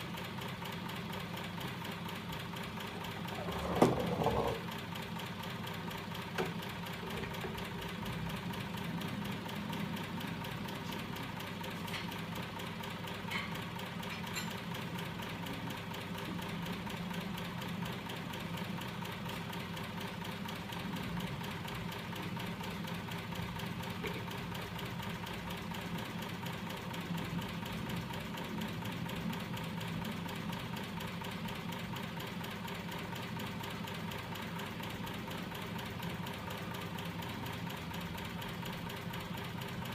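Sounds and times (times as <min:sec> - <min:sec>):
crank mechanism humming and knocking: 0:00.0 - 0:39.9.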